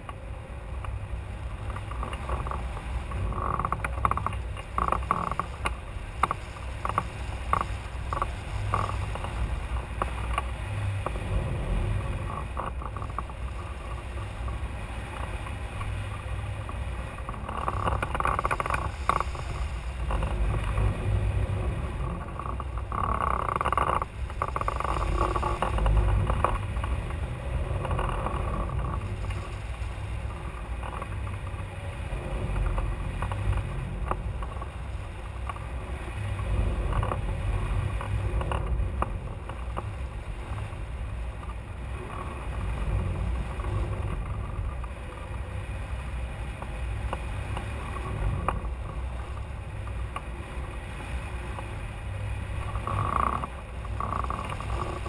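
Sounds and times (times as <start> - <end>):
faint clicks: 0.0 - 0.2, 0.8 - 55.0
wind rushing over microphone: 0.0 - 55.0.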